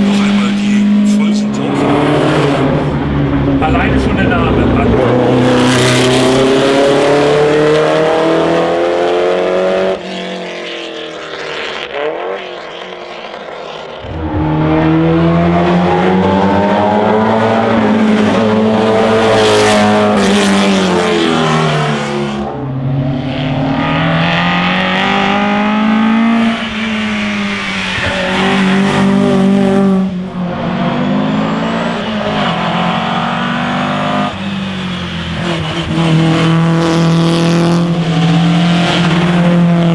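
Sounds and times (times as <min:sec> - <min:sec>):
distant car: 0:00.0 - 0:39.9
racing car engines accelerating: 0:00.0 - 0:39.9.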